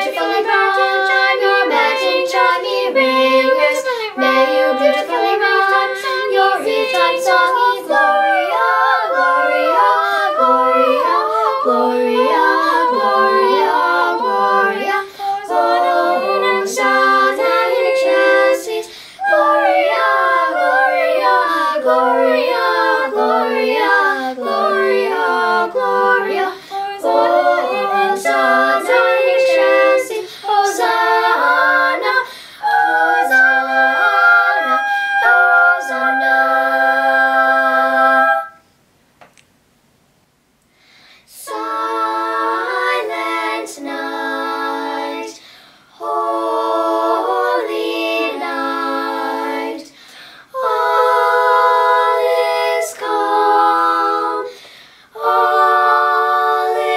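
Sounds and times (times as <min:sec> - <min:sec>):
family singing a cappella: 0:00.0 - 0:38.6, 0:40.9 - 0:56.9.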